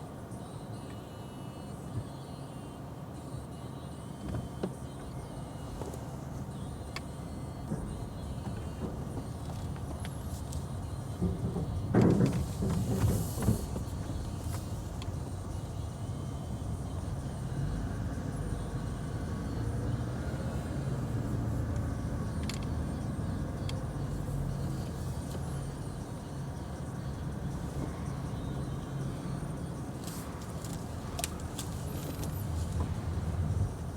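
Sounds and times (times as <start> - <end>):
vehicle engine rumble: 0.0 - 33.9.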